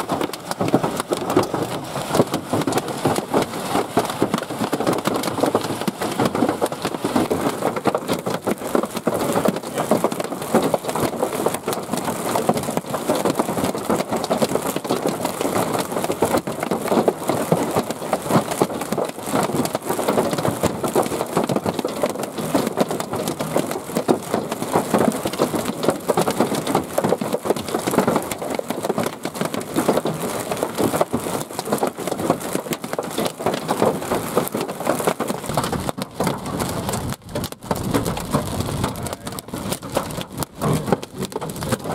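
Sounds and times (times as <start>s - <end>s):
hail pelting a vehicle: 0.0s - 41.9s.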